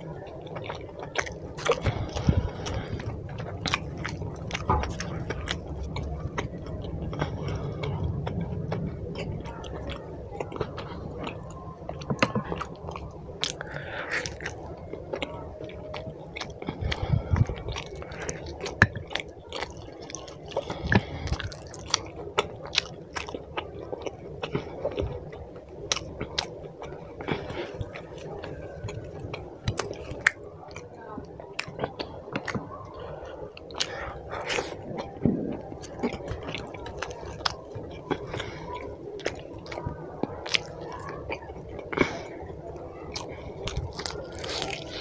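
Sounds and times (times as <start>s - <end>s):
wet chewing: 0.0s - 45.0s
mouth clicks and smacks: 0.5s - 42.3s.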